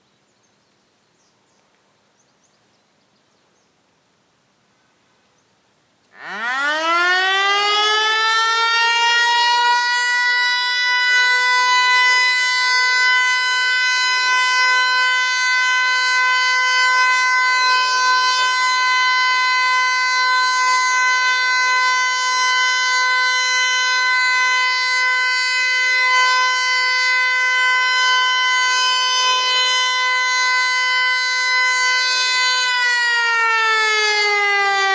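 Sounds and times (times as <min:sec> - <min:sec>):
electronic warning siren: 0:06.2 - 0:34.9.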